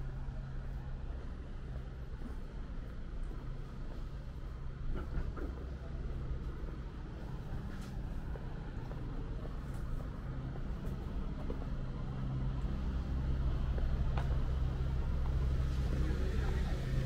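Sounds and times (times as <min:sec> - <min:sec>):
city street ambience: 0:00.0 - 0:17.0
vehicle engine humming: 0:00.0 - 0:17.0.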